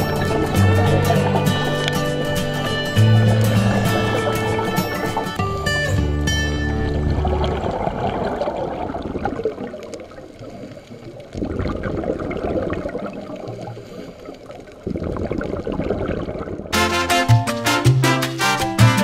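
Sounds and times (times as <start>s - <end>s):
muffled underwater crackling: 0.0s - 16.8s.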